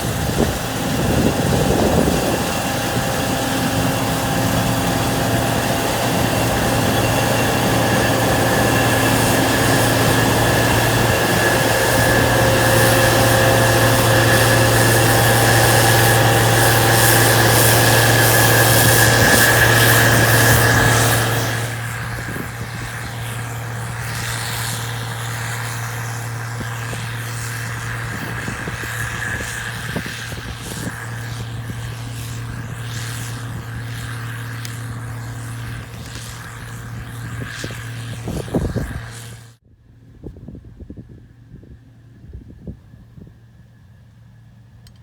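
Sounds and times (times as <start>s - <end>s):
steady high whine: 0.0s - 39.6s
combine harvester engine hum: 0.0s - 45.0s.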